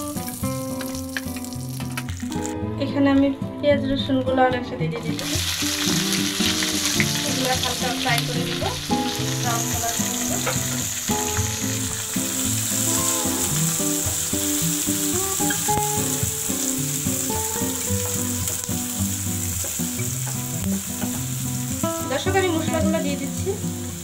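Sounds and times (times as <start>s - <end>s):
onions sizzling in oil: 0.0s - 2.6s, 5.2s - 24.0s
instrumental background music: 0.0s - 24.0s.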